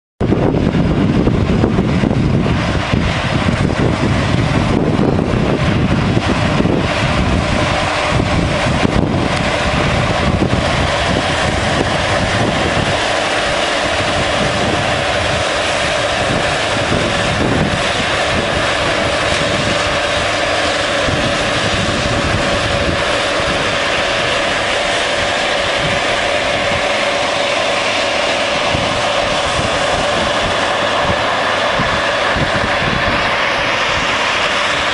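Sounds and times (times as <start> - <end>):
combine harvester running: 0.2 - 34.9
deep rumble: 0.2 - 34.9.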